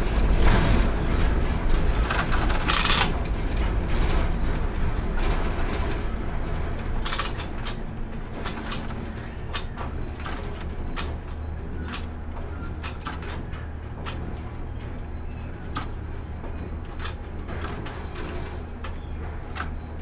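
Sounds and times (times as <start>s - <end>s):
crane machinery humming: 0.0s - 20.0s.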